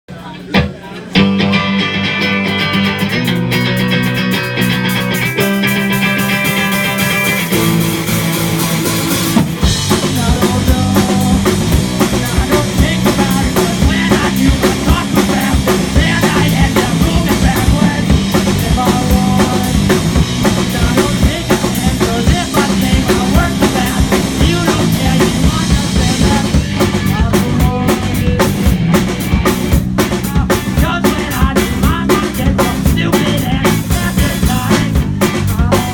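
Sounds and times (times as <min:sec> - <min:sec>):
rock band with drums: 0:00.1 - 0:35.9
electric guitar chords: 0:00.6 - 0:35.9.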